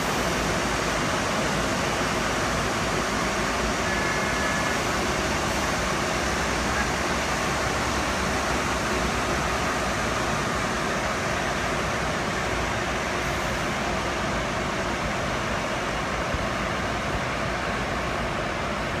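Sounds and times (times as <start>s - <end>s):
excavators running: 0.0s - 19.0s.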